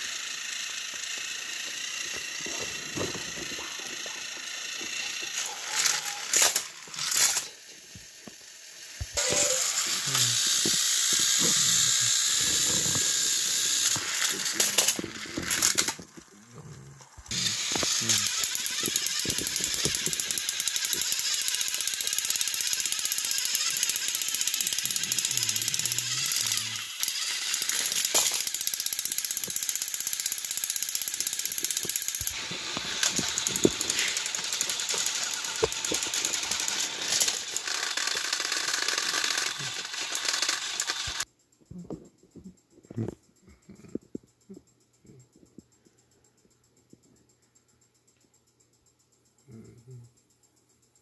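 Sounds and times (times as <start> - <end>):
toy train motors buzzing rattle: 0.0 - 41.5.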